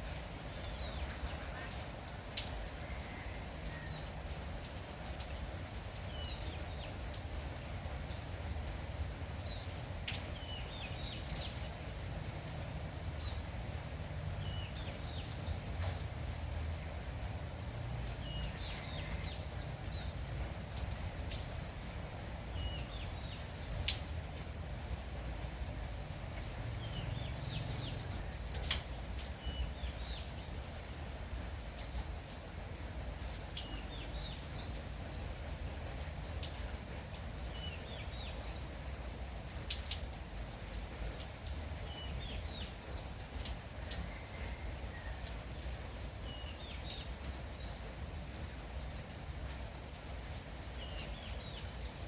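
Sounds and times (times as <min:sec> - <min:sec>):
light drizzle: 0:00.0 - 0:52.0
sharp drips: 0:00.0 - 0:52.0.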